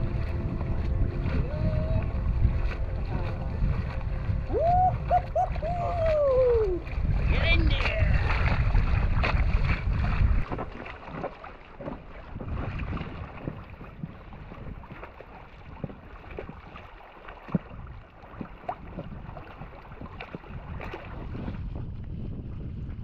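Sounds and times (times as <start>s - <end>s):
water splashes and drips: 0.0s - 23.0s
waves slapping against raft: 0.0s - 23.0s
wind on microphone: 0.0s - 23.0s.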